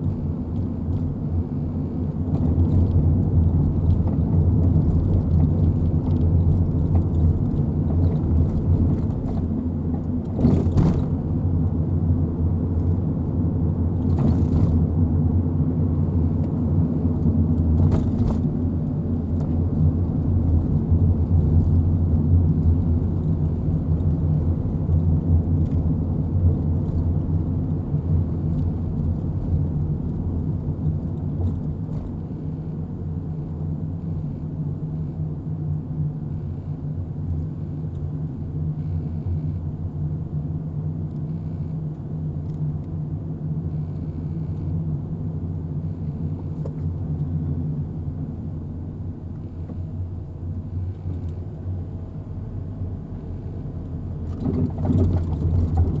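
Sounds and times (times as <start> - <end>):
motor vehicle engine drone: 0.0 - 56.0.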